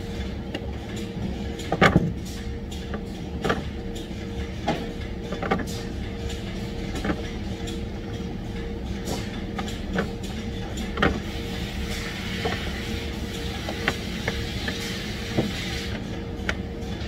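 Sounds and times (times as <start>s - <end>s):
factory machine hum: 0.0s - 17.0s.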